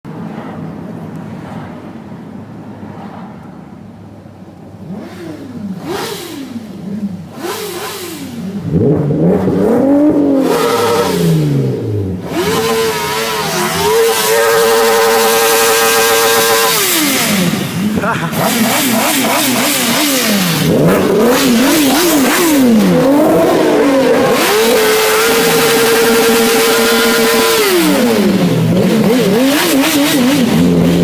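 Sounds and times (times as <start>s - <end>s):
motorcycle engine revving hard: 4.8s - 31.0s.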